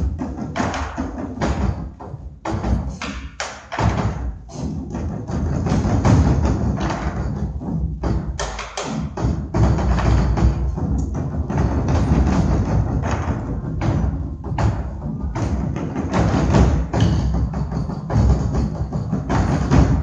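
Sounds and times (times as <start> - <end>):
barrel drums played with sticks: 0.0 - 20.0.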